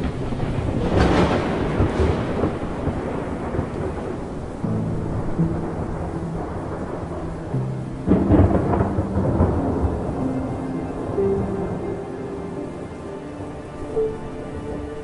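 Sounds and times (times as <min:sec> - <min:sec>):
rain: 0:00.0 - 0:15.0
soft sustained music notes: 0:00.0 - 0:15.0
thunder rumbling: 0:00.0 - 0:15.0.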